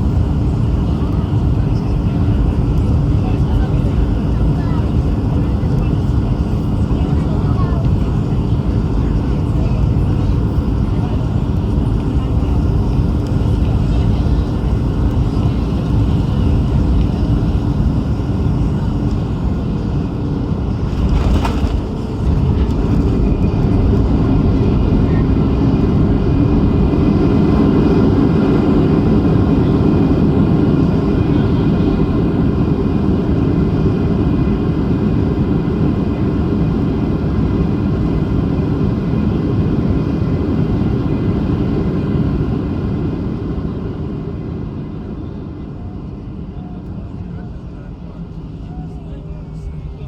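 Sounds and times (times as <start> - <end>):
jet engines and airflow rushing: 0.0 - 50.0.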